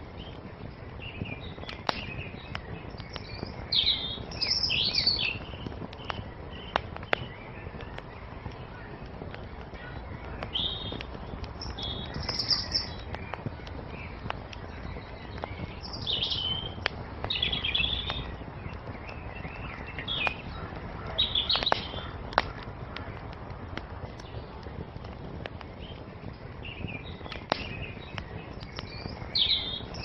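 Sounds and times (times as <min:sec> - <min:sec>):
songbirds chirping: 0:00.0 - 0:30.0
wood fire crackling: 0:00.0 - 0:30.0.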